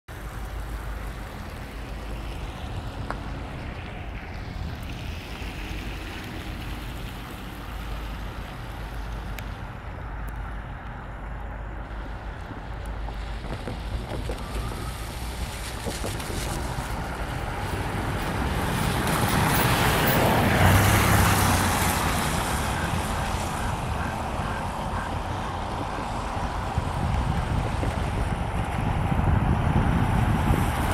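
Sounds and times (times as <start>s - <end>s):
diesel locomotives rumbling: 0.1s - 30.9s.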